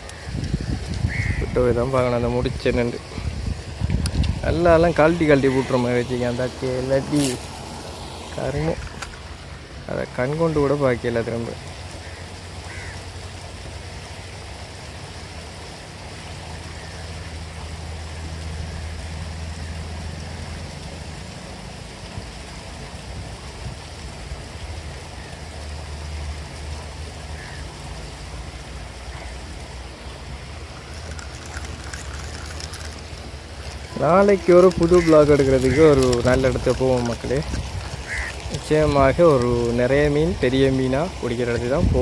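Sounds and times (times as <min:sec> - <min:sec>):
constant hiss: 0:00.0 - 0:42.0.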